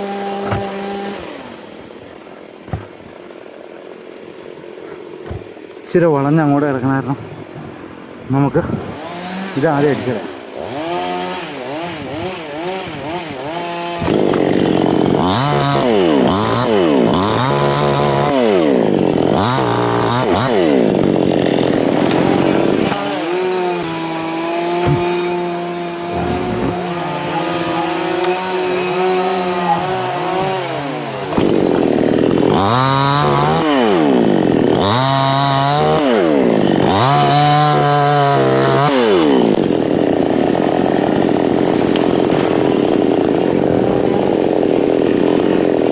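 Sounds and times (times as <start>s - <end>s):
chainsaw revving: 0.0s - 2.0s, 8.9s - 45.9s.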